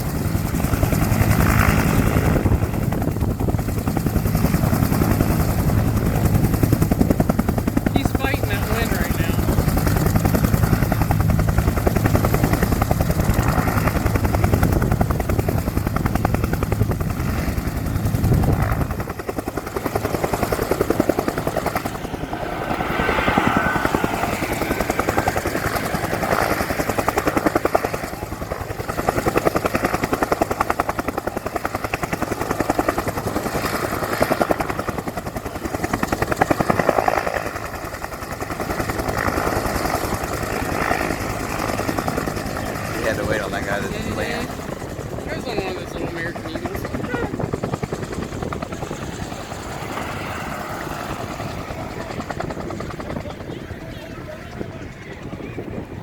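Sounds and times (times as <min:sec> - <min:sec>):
helicopter rotor beating: 0:00.0 - 0:56.0.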